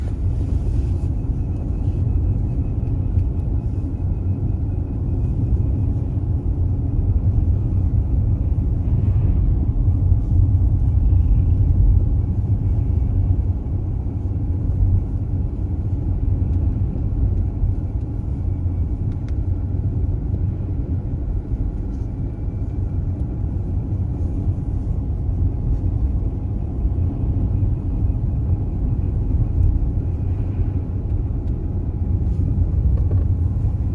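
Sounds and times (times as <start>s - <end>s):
road and tyre rumble: 0.0s - 33.9s.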